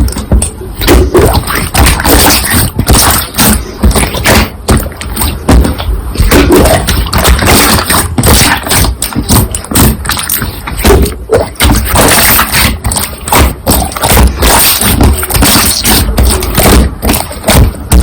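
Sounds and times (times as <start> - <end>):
slime squelching by hand: 0.0 - 18.0.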